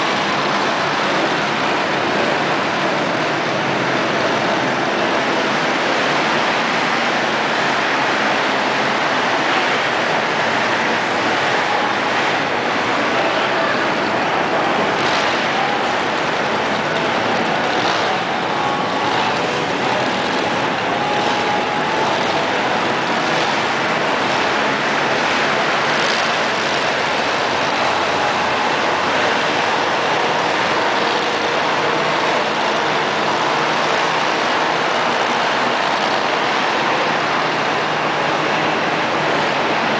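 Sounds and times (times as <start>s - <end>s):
monster truck engines running: 0.0s - 39.9s.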